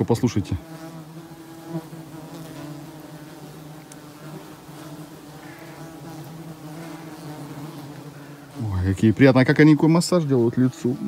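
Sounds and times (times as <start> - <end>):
midges buzzing: 0.0 - 11.0.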